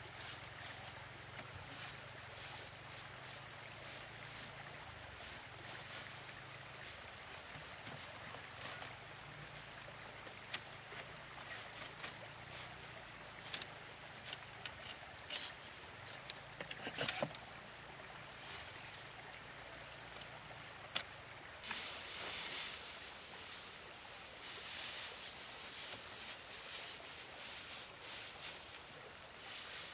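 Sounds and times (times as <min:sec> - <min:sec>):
dry straw rustling: 0:00.0 - 0:16.3, 0:21.6 - 0:29.9.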